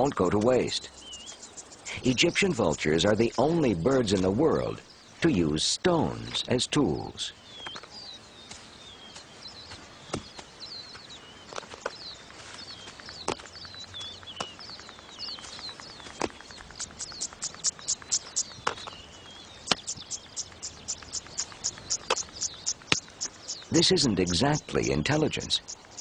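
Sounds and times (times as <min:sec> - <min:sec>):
birds chirping: 0:00.0 - 0:26.0
insects chirping: 0:00.0 - 0:26.0.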